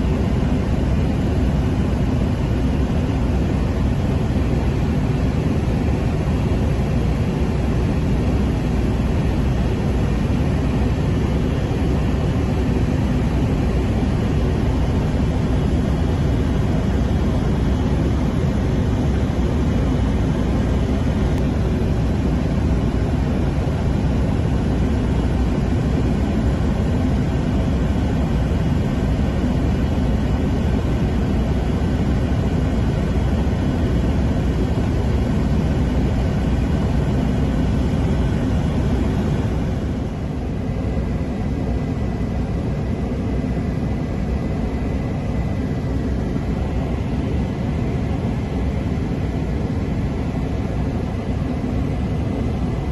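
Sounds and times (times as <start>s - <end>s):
helicopter turbine and rotor drone: 0.0s - 52.9s.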